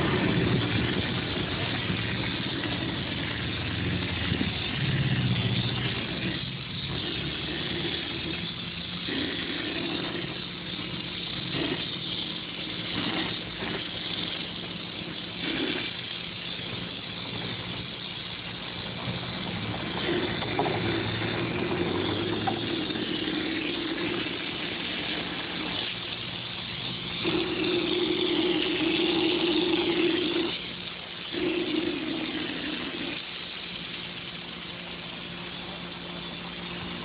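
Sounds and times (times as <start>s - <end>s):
air compressor humming: 0.0s - 37.0s.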